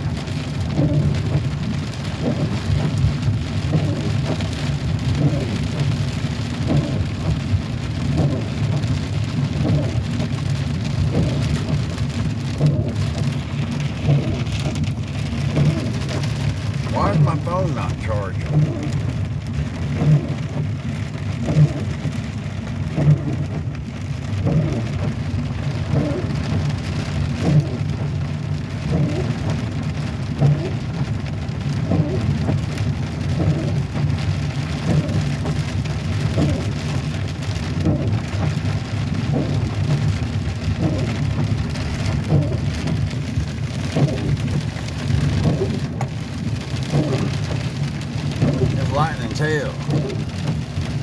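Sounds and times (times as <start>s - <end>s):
heavy rain drumming on car: 0.0s - 51.0s.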